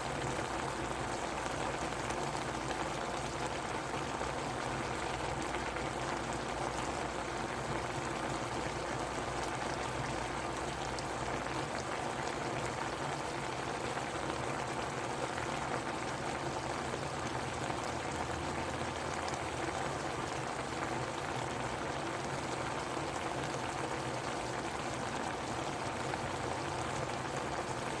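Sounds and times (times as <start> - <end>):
stew boiling and bubbling: 0.0 - 28.0.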